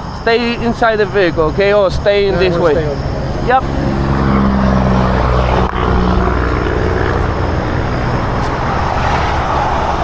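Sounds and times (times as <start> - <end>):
outdoor noise: 0.0 - 10.0.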